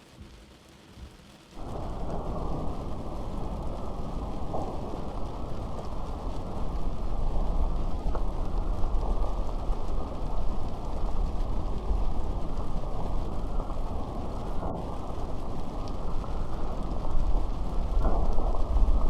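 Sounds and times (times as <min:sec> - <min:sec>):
steady rain hiss: 0:00.0 - 0:19.0
deep low rumble: 0:01.6 - 0:19.0.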